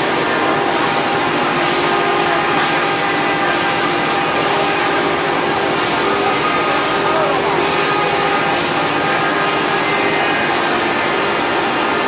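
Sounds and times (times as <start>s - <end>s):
router cutting wood: 0.0s - 12.0s.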